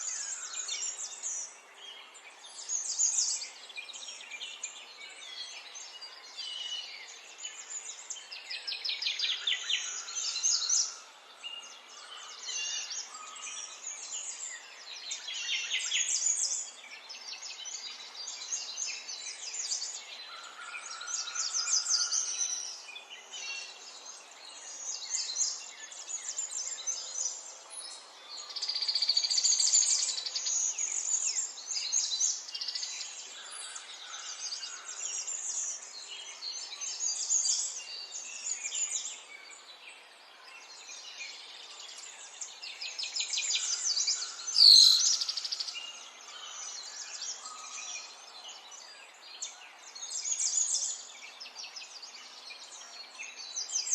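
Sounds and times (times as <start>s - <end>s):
songbirds trilling and chirping: 0.0s - 53.9s.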